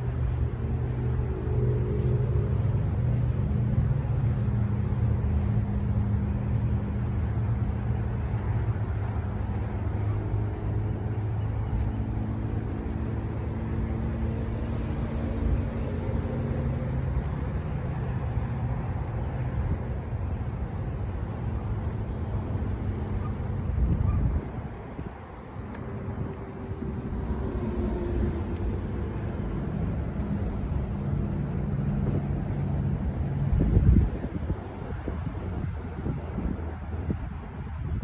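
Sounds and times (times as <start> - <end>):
low motor rumble: 0.0 - 36.9.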